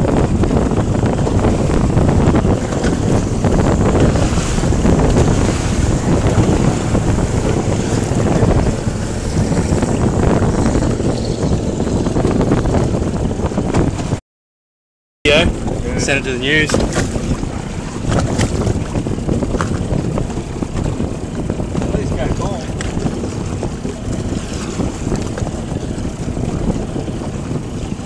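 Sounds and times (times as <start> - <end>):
wind buffeting microphone: 0.0 - 14.2, 15.3 - 28.0.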